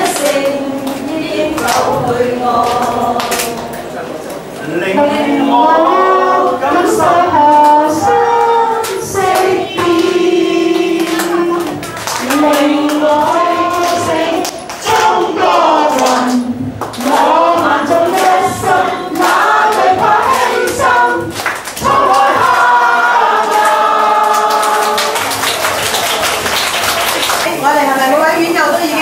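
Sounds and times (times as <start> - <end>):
hand clapping: 0.0 - 4.4, 7.4 - 27.5
group singing slow song: 0.0 - 27.4.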